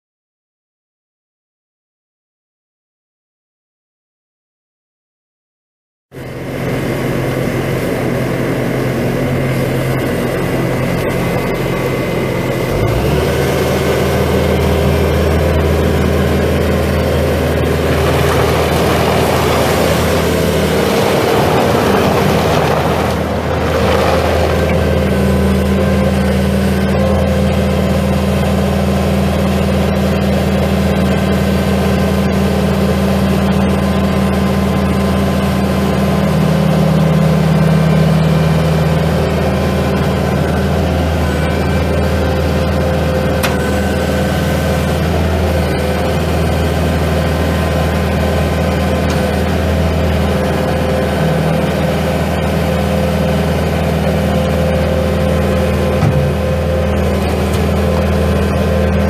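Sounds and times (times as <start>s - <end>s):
diesel engine running: 6.1s - 59.0s.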